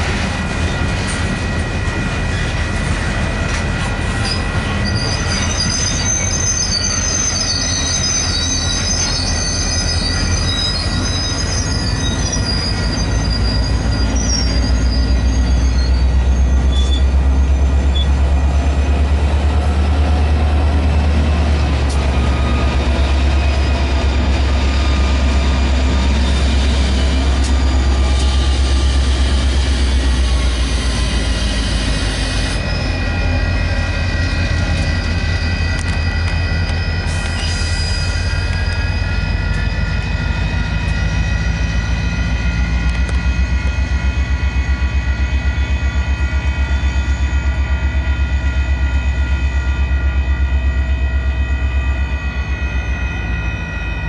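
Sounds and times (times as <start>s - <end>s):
crossing warning bell ringing: 0.0s - 54.0s
train rumbling on rails: 0.0s - 54.0s.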